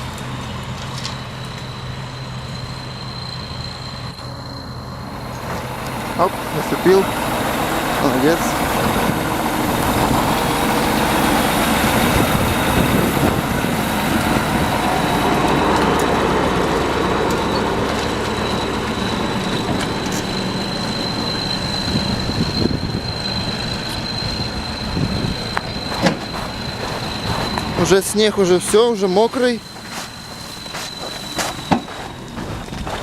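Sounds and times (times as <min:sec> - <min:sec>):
tractor diesel engine: 0:00.0 - 0:33.0
thin high whine: 0:00.6 - 0:33.0.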